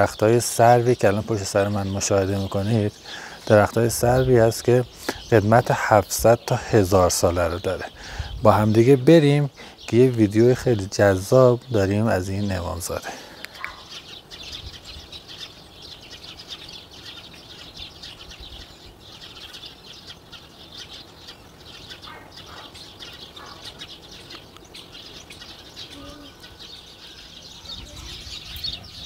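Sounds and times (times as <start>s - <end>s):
small birds chirping and twittering: 0.0s - 29.0s.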